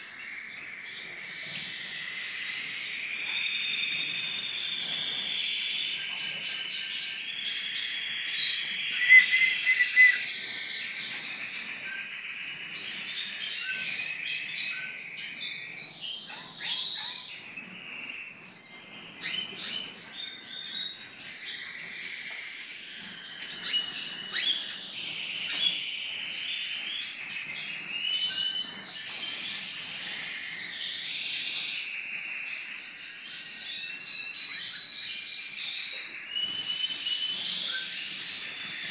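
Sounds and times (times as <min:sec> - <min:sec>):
chorus of finches chirping: 0:00.0 - 0:38.9.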